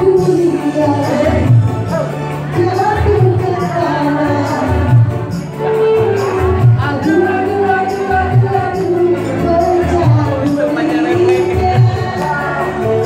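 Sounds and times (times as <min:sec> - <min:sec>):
amplified backing with bass beat: 0:00.0 - 0:13.0
woman singing through microphone: 0:00.0 - 0:13.0.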